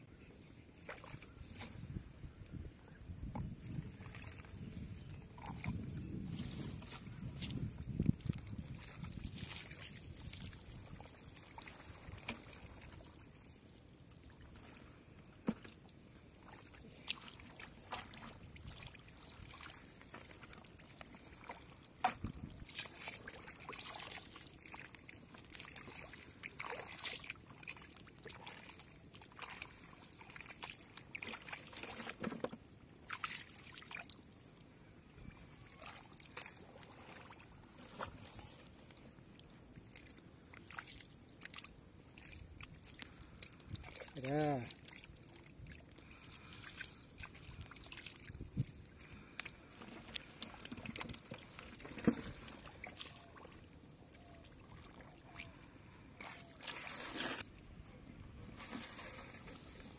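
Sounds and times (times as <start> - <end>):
hand squelching in muddy water: 3.3 - 34.6, 35.4 - 59.9.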